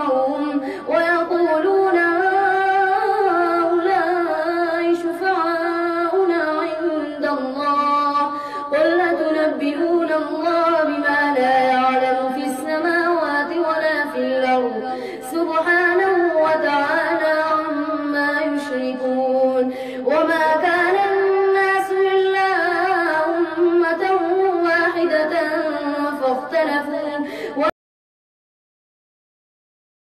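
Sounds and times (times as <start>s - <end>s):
boy chanting melodically: 0.0s - 27.7s.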